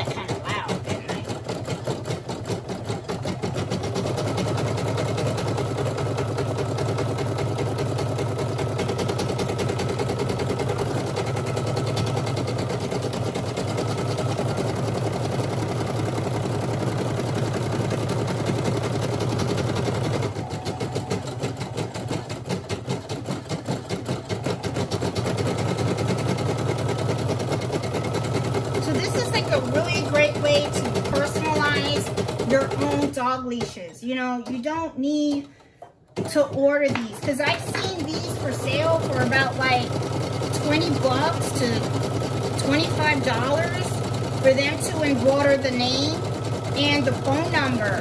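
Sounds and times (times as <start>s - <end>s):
embroidery machine needle stitching: 0.0s - 48.0s
machine motor hum: 3.3s - 33.2s, 37.3s - 48.0s.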